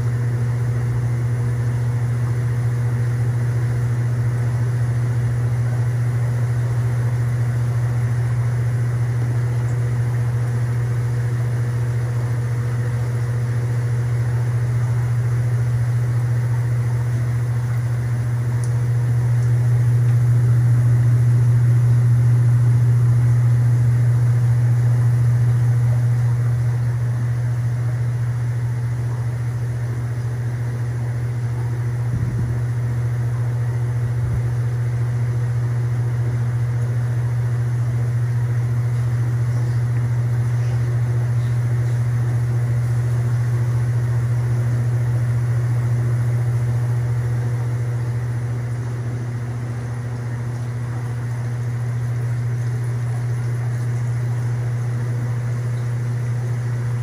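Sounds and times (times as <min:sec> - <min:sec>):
aquarium pumps and fans humming: 0:00.0 - 0:57.0.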